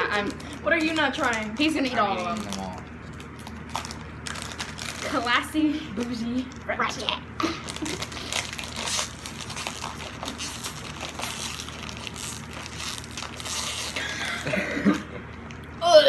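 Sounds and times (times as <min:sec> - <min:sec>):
candy package crinkling: 0:00.0 - 0:15.8.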